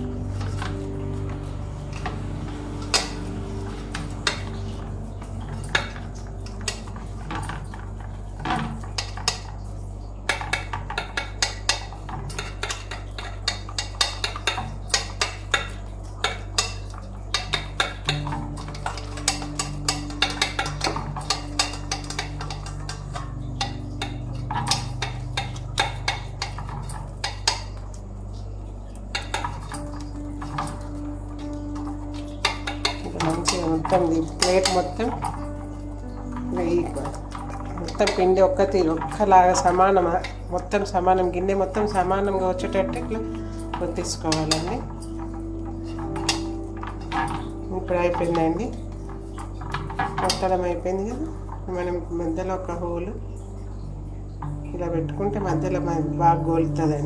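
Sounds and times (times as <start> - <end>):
dough tapped in metal pan: 0.0 - 28.0, 29.1 - 40.6, 43.7 - 50.6
soft background music: 0.0 - 57.0.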